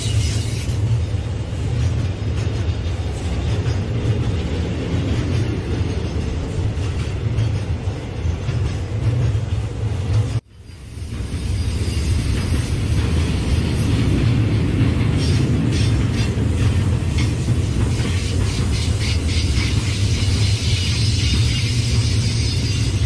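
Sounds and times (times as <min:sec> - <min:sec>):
freight train rumbling on rails: 0:00.0 - 0:23.0.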